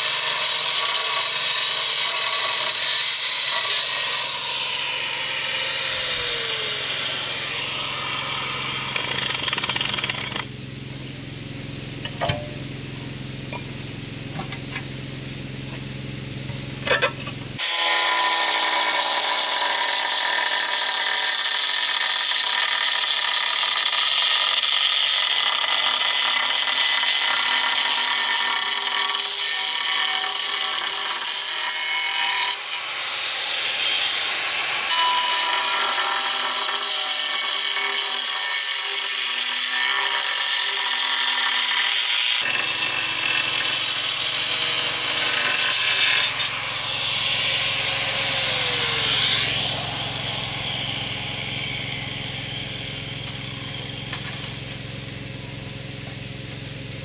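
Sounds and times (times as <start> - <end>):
angle grinder cutting tile: 0.0 - 10.5, 16.9 - 56.6.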